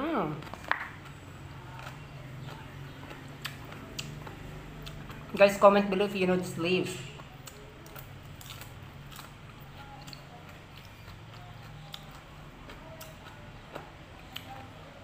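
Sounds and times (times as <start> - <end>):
steady low hum: 0.0 - 15.0
chewing raw vegetables: 0.2 - 15.0.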